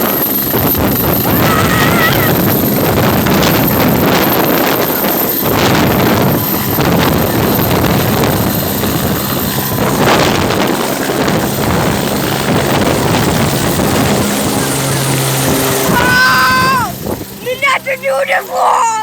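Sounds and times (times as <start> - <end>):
wind buffeting microphone: 0.0 - 18.7
helicopter rotor and turbine: 0.0 - 19.0.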